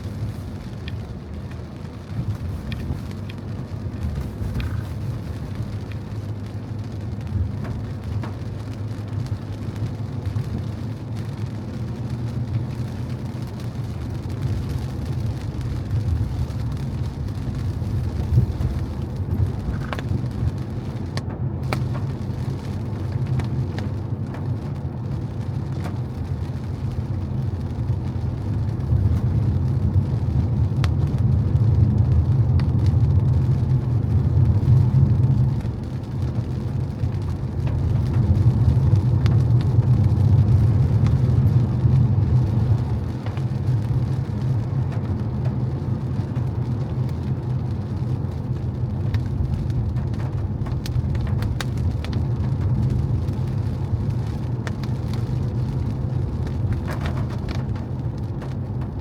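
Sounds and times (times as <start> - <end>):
car engine and tyres rumbling: 0.0 - 59.0
rain and spray hissing: 0.0 - 59.0.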